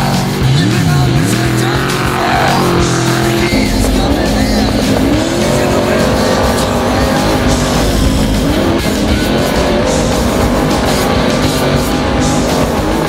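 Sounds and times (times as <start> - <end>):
loud background music: 0.0 - 13.0
racing engine revving: 0.0 - 13.0.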